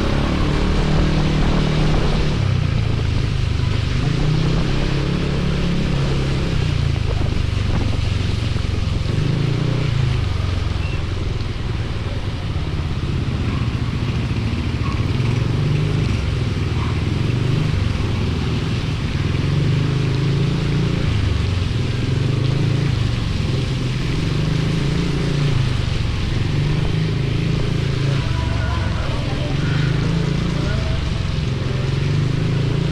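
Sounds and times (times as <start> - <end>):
motorcycle engine revving: 0.0 - 32.9
wind and rain rushing: 0.0 - 32.9.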